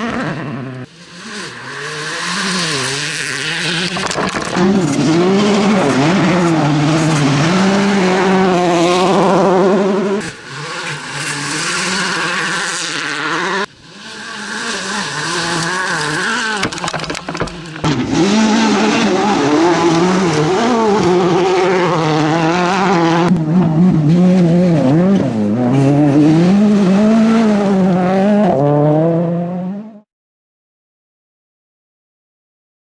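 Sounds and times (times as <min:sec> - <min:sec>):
rally car engines revving: 0:00.0 - 0:30.1.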